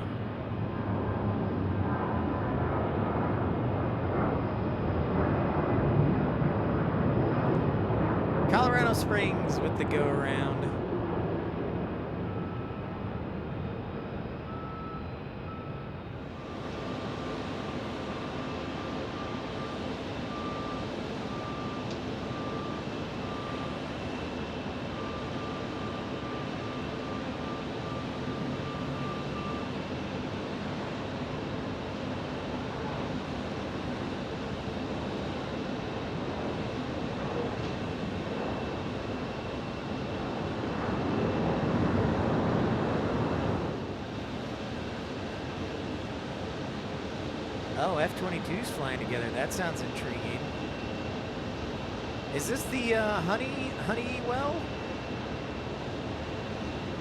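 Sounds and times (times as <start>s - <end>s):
jet engines running: 0.0s - 12.2s, 15.9s - 57.0s
faint engine whine: 0.0s - 57.0s.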